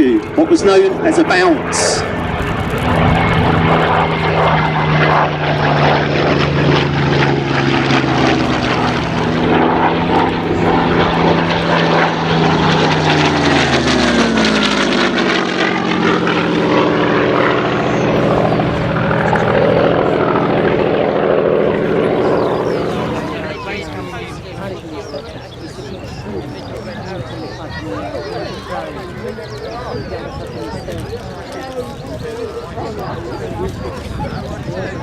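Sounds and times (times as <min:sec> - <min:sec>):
propeller plane engine passing: 0:00.0 - 0:35.0.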